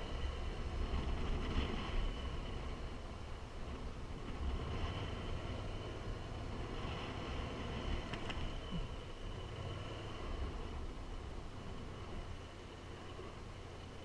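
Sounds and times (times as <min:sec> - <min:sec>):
motorcycle engine rumble: 0:00.0 - 0:14.0
wind and road noise: 0:00.0 - 0:14.0.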